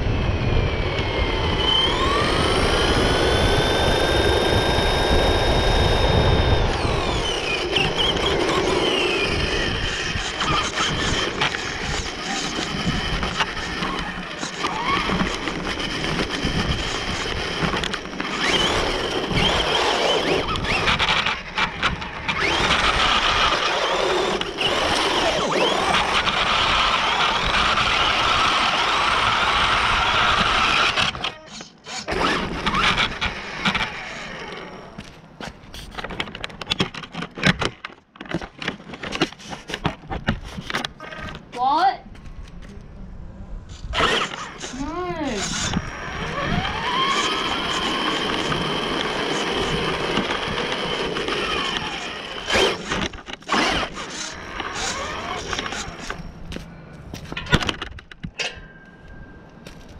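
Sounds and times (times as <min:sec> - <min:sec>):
chassis rattle: 0:00.0 - 0:41.5, 0:43.7 - 0:59.9
rc buggy motor and gear whine: 0:00.0 - 0:41.8, 0:43.6 - 0:59.9
tyre noise on paving: 0:00.0 - 0:59.9.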